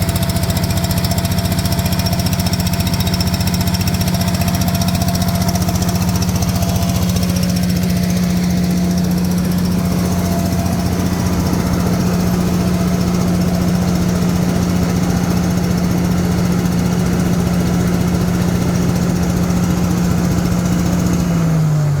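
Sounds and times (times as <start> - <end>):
truck engine running at high revs: 0.0 - 22.0.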